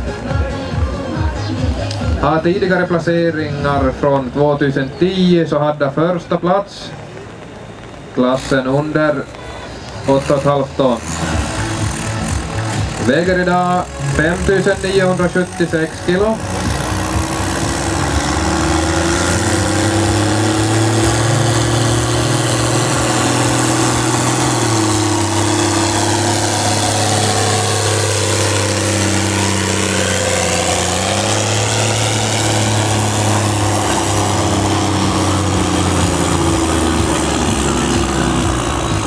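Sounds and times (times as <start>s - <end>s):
diesel tractor engine under load: 0.0s - 39.0s.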